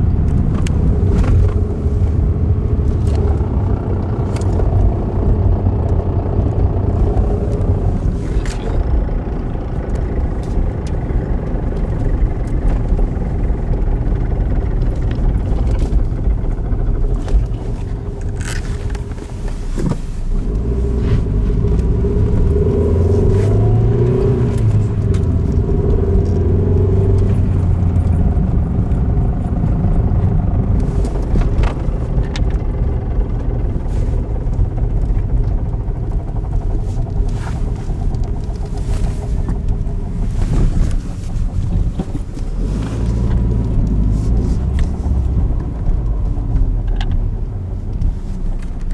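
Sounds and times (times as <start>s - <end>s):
car engine driving: 0.0s - 48.9s.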